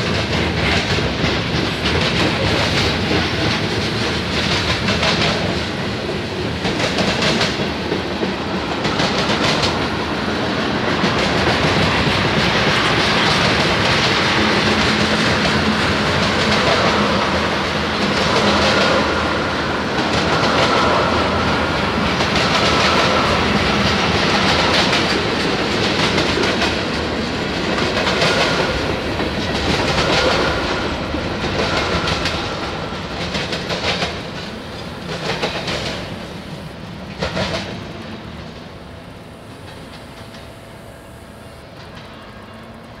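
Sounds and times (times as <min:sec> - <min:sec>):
train wheels clacking over rails: 0:00.0 - 0:43.0.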